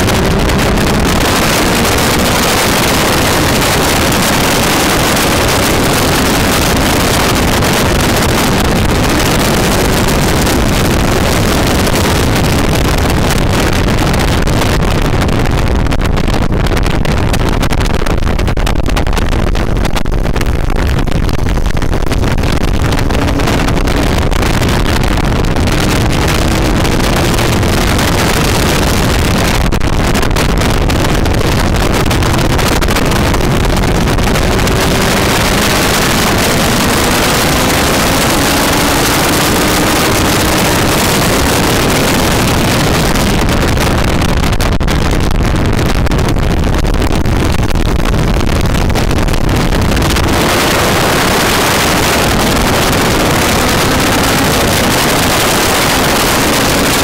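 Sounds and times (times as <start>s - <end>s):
motorcycle engine running: 0.0s - 18.8s, 19.4s - 44.3s, 48.4s - 57.0s
wind rushing over microphone: 0.0s - 57.0s.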